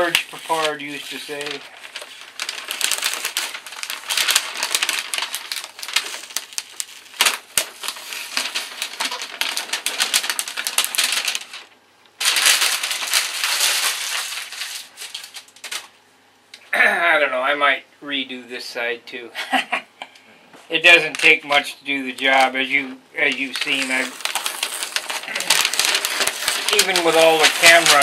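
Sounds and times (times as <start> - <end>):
paper crinkling and rustling: 0.0 - 16.0, 20.8 - 28.0.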